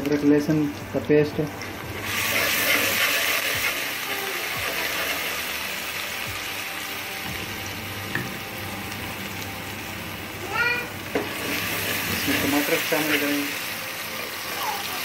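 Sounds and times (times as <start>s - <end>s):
paste sizzling in hot oil: 1.9s - 7.9s, 8.8s - 15.0s.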